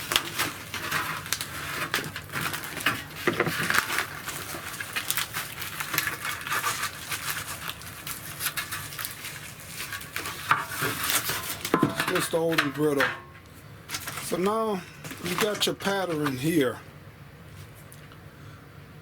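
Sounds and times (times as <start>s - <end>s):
brittle covering being peeled and torn: 0.0s - 13.0s, 13.9s - 16.5s.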